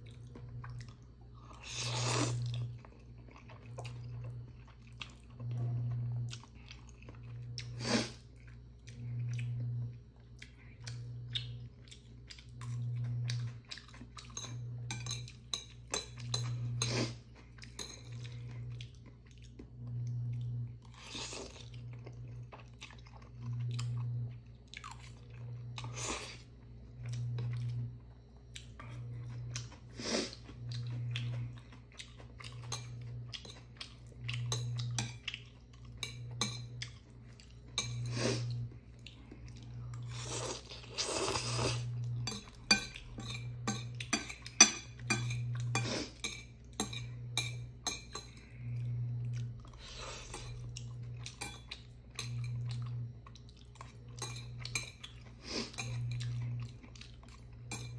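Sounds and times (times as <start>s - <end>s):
person chewing and slurping noodles: 0.0s - 57.9s.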